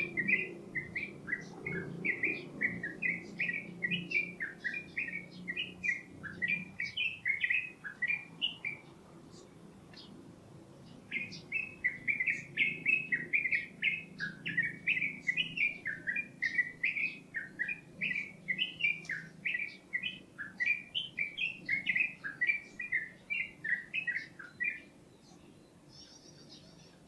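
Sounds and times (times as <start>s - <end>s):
songbird whistling: 0.0s - 8.8s, 11.1s - 24.9s.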